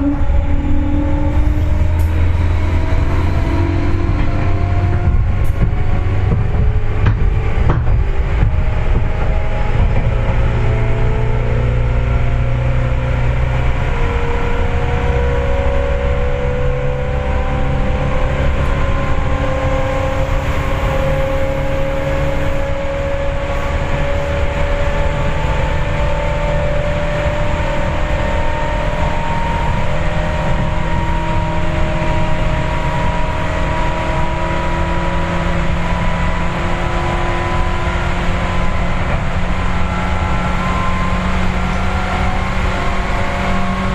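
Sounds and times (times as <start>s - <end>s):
traction motor whine: 0.0s - 43.9s
train wheels rumbling on rails: 0.0s - 43.9s.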